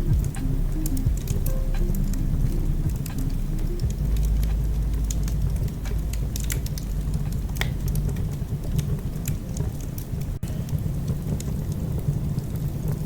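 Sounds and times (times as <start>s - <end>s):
fireplace crackling: 0.0s - 13.0s
low rumble of flame: 0.0s - 13.0s.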